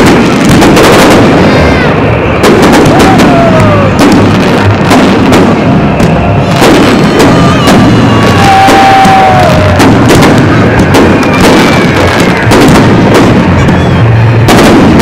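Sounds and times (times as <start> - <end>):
fireworks bursting with loud bangs: 0.0 - 15.0
fireworks whistling: 0.0 - 15.0.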